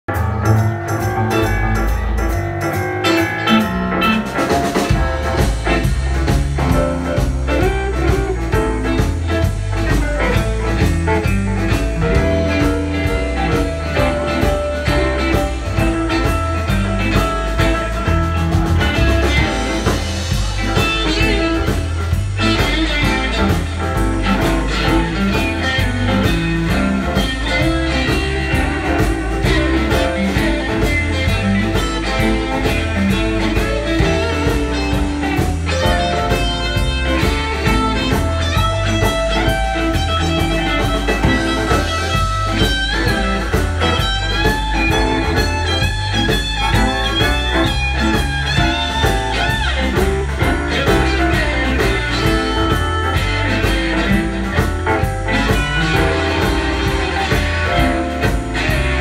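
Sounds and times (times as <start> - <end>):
bass guitar: 0.0 - 59.0
electric guitars: 0.0 - 59.0
keyboard: 0.0 - 59.0
drum kit beat: 0.1 - 59.0.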